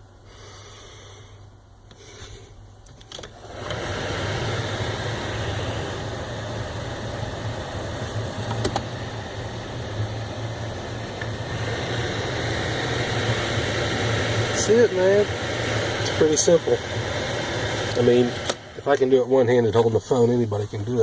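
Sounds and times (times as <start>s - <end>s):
steady mechanical running noise: 0.0s - 21.0s.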